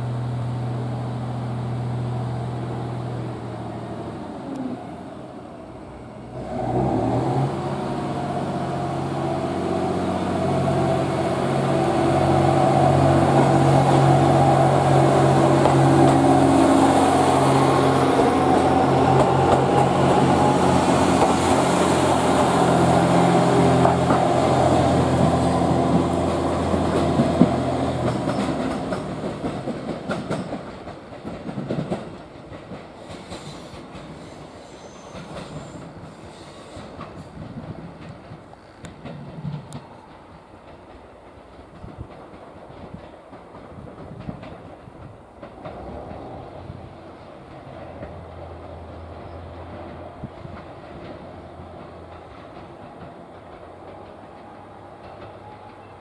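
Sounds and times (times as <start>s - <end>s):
train engine and motor hum: 0.0s - 56.0s
wheels clattering on rails: 9.6s - 56.0s.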